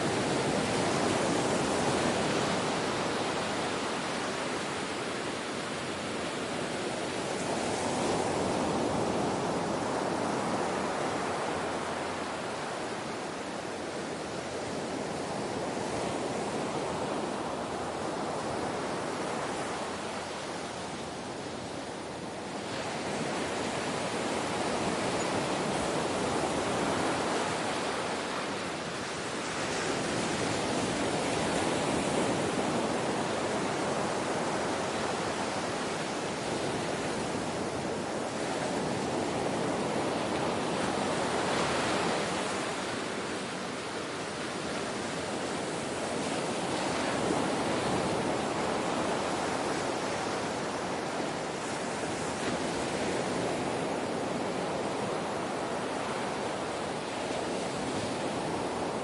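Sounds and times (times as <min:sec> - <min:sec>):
ocean surf washing: 0:00.0 - 0:59.0.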